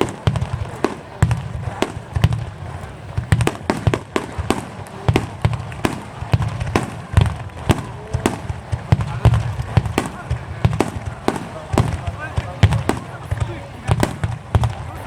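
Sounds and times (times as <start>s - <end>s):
deep fireworks booms: 0.0s - 15.0s
fireworks cracking: 0.0s - 15.0s.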